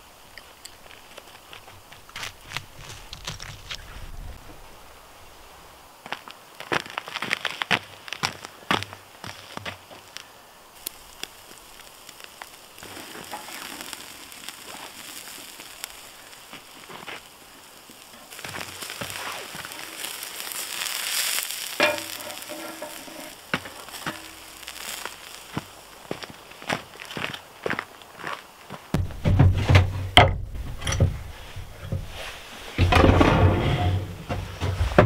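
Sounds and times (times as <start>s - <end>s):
meat sizzling over charcoal: 0.0s - 35.0s.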